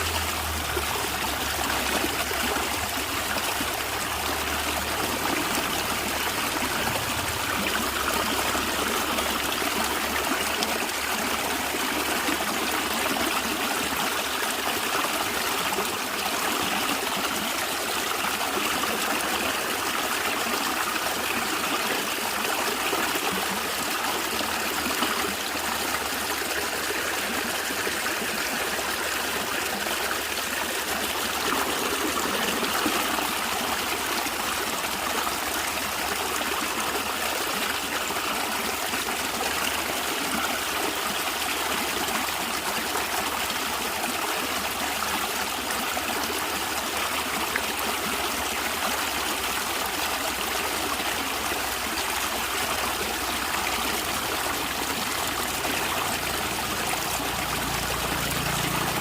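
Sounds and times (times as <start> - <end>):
stream gurgling over rocks: 0.0 - 59.0.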